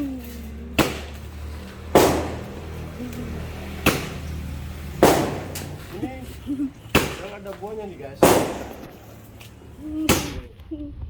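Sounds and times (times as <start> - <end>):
firecrackers banging: 0.0 - 10.6.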